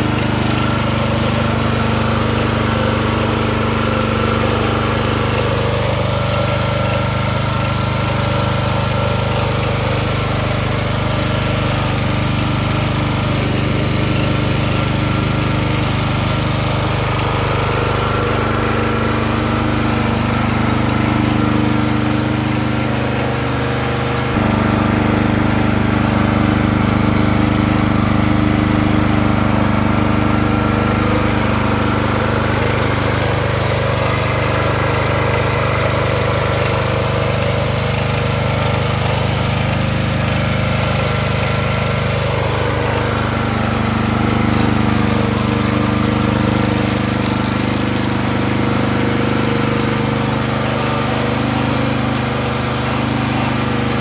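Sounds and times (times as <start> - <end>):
garden tiller engine running: 0.0 - 54.0.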